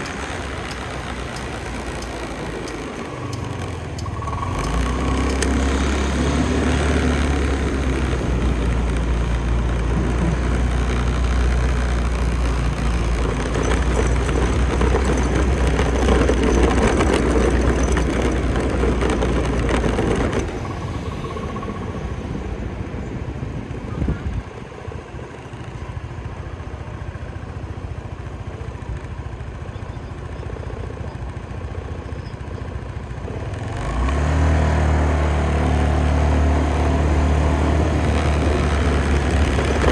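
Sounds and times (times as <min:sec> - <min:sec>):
motor scooter engine: 0:00.0 - 0:39.9.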